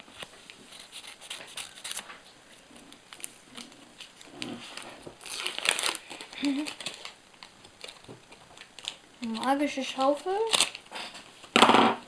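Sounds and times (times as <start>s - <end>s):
wrapper crinkling: 0.7s - 11.0s.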